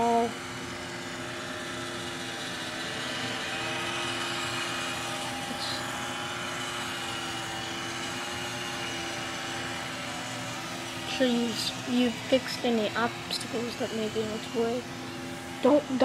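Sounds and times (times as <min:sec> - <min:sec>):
robot vacuum running: 0:00.0 - 0:16.0.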